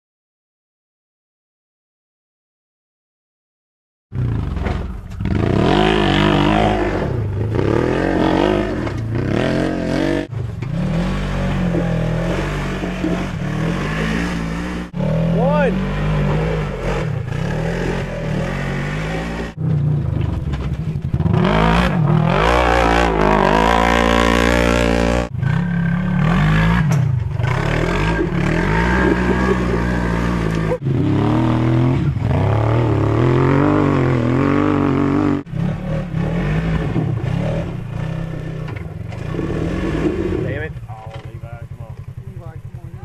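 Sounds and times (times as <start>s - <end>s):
utv engines revving: 4.2s - 43.0s.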